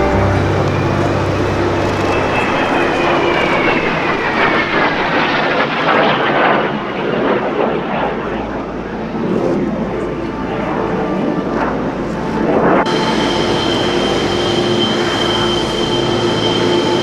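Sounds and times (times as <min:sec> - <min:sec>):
aircraft flying past: 0:00.0 - 0:17.0.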